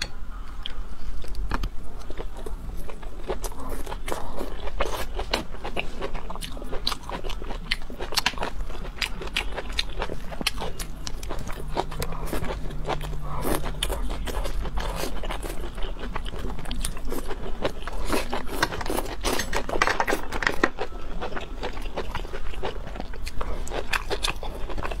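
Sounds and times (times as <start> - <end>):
crunching and chewing: 0.0 - 25.0.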